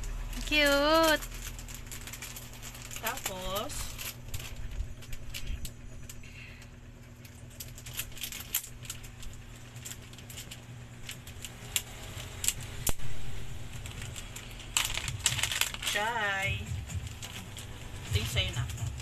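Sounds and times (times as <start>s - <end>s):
packaging rustling: 0.0s - 19.0s
small items clicking and rattling: 0.0s - 19.0s
steady low hum: 0.0s - 19.0s.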